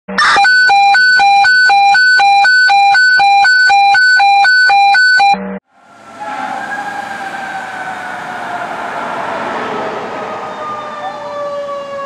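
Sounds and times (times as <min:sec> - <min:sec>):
hi-lo electronic siren: 0:00.1 - 0:12.0.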